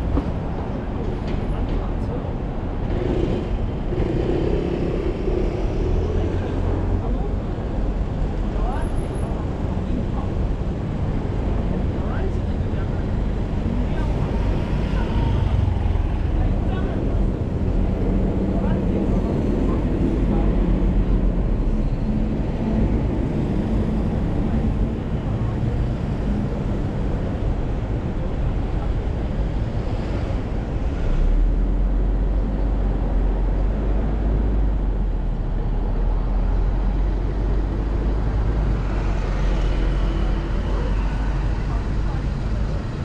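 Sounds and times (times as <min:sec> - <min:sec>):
bus engine hum: 0:00.0 - 0:43.0
cars moving through: 0:00.0 - 0:43.0.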